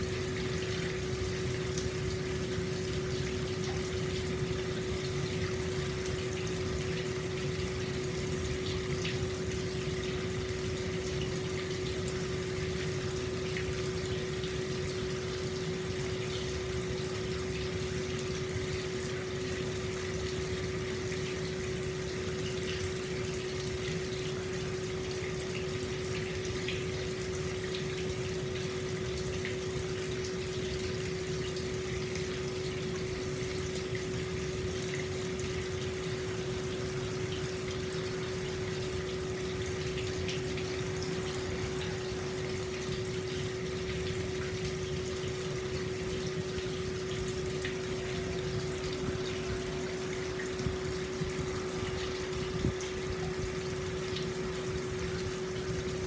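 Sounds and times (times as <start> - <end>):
water pouring into bath: 0.0 - 56.0.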